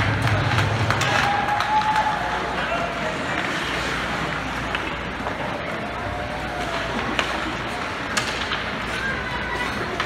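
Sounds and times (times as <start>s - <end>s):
arena noise: 0.0s - 10.0s.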